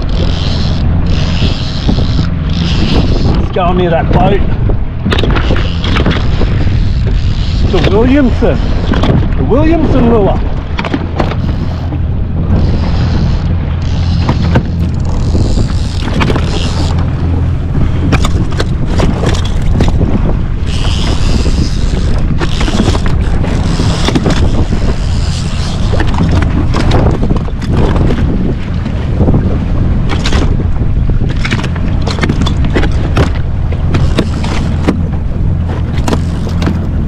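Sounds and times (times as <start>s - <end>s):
jet ski engine running: 0.0s - 37.0s
water washing against hull: 0.0s - 37.0s
wind buffeting microphone: 0.0s - 37.0s.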